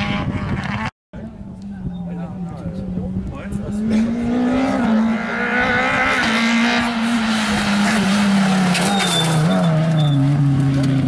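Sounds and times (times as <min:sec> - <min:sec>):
rally car engine at high revs: 0:00.0 - 0:00.9, 0:02.0 - 0:11.0.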